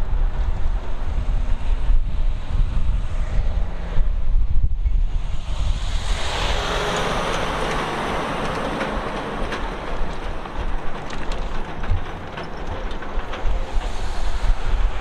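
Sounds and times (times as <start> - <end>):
truck engine and tyre noise: 0.0 - 15.0
wind on microphone: 0.0 - 15.0.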